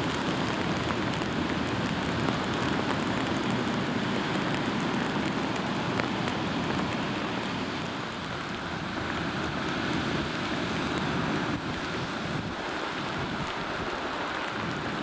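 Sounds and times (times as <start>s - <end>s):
steady rain: 0.0s - 15.0s
ticks of raindrops: 0.0s - 15.0s
wind on microphone: 0.0s - 15.0s.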